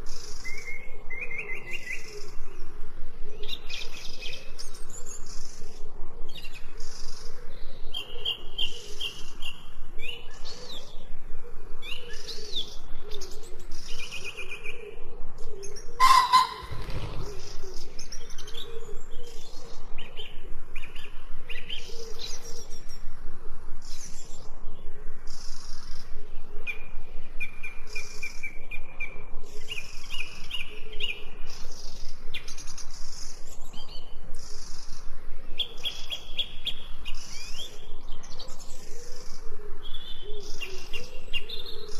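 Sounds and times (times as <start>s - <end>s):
songbirds chirping and singing: 0.0s - 41.9s.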